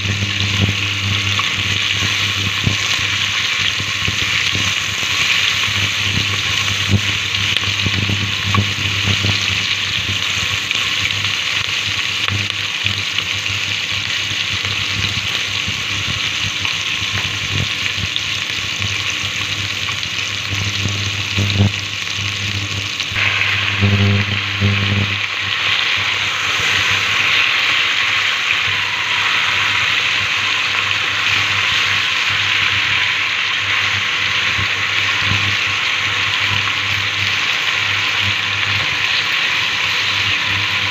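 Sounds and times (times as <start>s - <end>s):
vegetables sizzling in a pot: 0.0s - 40.9s.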